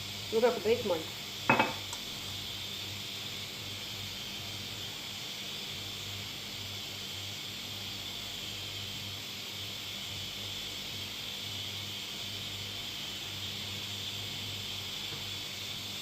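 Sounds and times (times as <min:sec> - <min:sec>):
pressure cooker hissing steam: 0:00.0 - 0:16.0.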